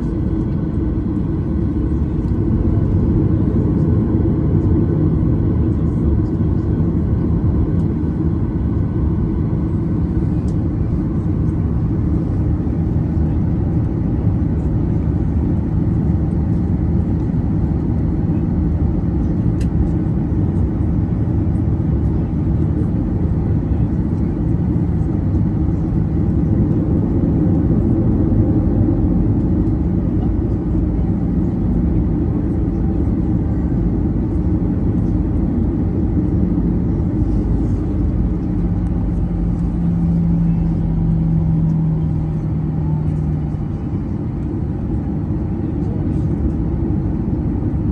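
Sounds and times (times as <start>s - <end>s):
jet engines rumbling: 0.0s - 47.9s
steady cabin hum: 0.0s - 47.9s.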